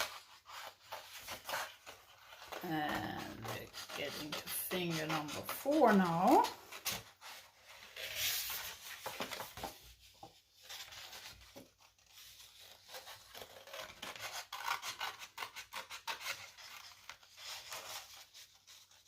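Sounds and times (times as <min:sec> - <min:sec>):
scissors cutting paper: 0:00.0 - 0:09.7, 0:10.8 - 0:19.0
paper rustling: 0:00.0 - 0:19.0.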